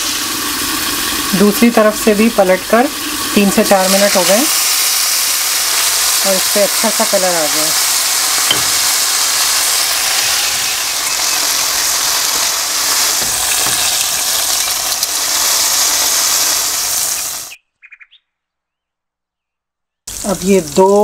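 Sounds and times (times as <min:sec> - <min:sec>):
chicken sizzling in oil: 0:00.0 - 0:17.6, 0:20.1 - 0:21.0.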